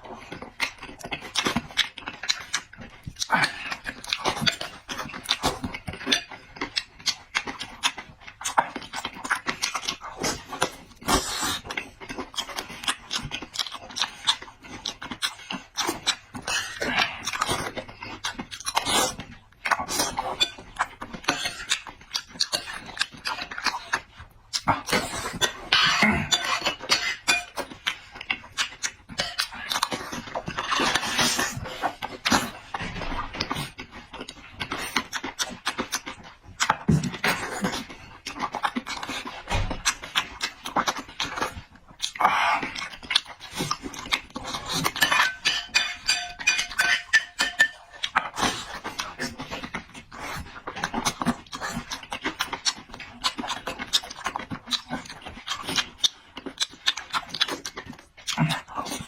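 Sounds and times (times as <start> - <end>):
person chewing and slurping: 0.0 - 59.0.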